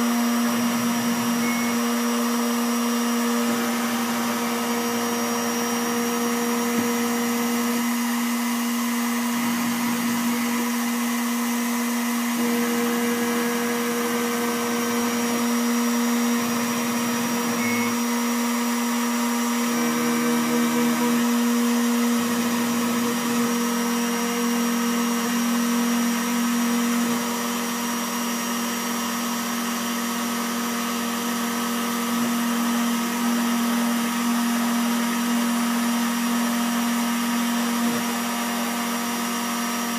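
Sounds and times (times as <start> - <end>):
router spindle motor whining: 0.0 - 39.9.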